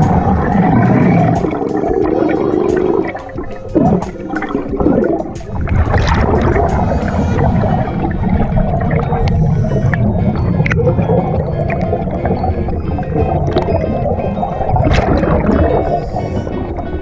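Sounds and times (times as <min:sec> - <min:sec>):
air bubbling underwater: 0:00.0 - 0:17.0.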